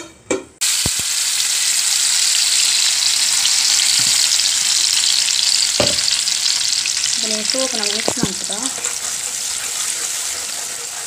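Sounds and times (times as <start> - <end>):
puree sizzling in hot oil: 0.6 - 11.0.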